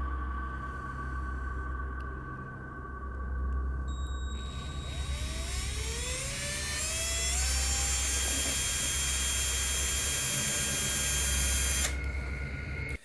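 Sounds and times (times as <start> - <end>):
low hum: 0.0 - 13.0
rising whining tone: 0.0 - 13.0.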